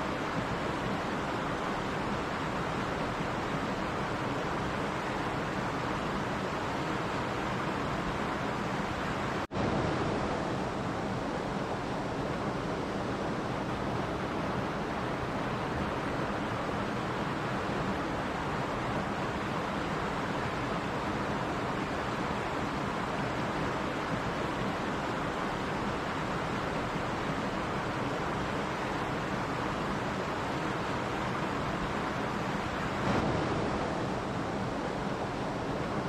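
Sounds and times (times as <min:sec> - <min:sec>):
stream flowing: 0:00.0 - 0:36.0.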